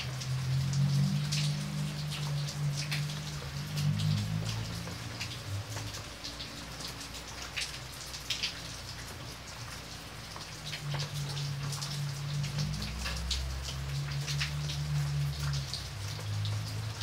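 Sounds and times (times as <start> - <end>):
rain drops tapping on paving: 0.0 - 17.0.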